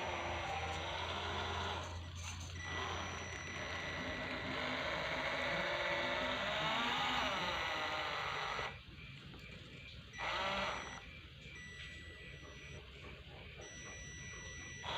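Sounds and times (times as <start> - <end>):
electric motor and gearbox whining: 0.0 - 14.9.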